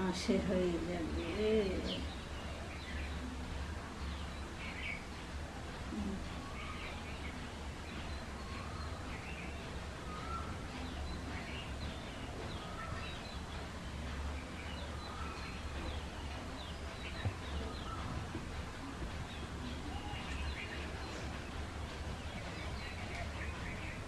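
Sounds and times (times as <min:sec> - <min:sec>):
small birds chirping: 0:00.0 - 0:24.0
steady low hum: 0:00.0 - 0:24.0.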